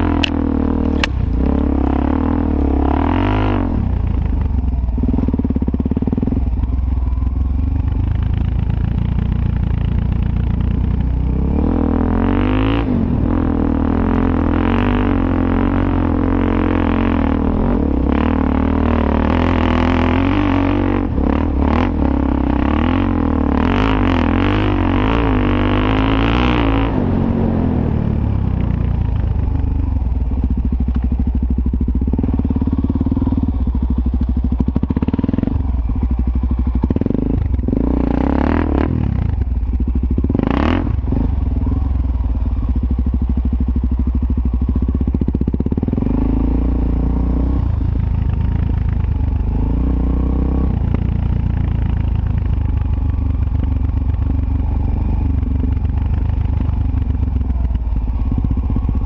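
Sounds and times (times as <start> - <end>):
engine revving: 0.0 - 6.5, 8.0 - 29.7, 32.1 - 42.6, 44.9 - 53.4
motorcycle engine running: 0.0 - 59.0.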